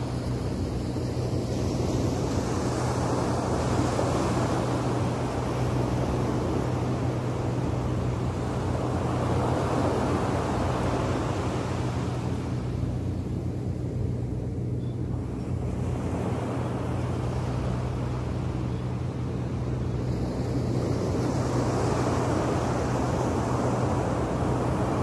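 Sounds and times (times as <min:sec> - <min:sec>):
steady low hum: 0:00.0 - 0:25.0
waves washing on sandy beach: 0:00.0 - 0:25.0.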